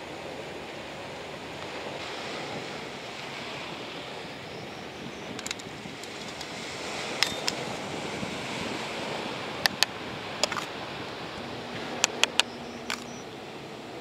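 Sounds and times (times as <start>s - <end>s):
surf: 0.0s - 14.0s.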